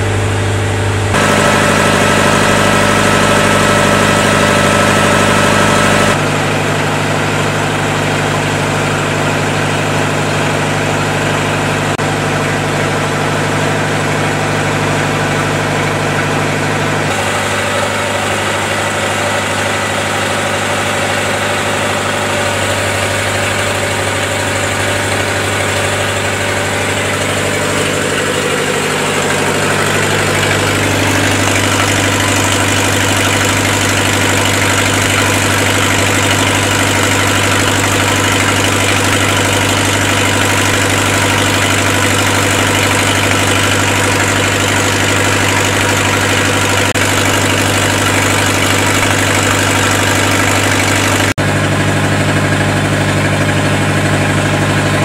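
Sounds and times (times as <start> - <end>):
diesel generator running: 0.0 - 55.0.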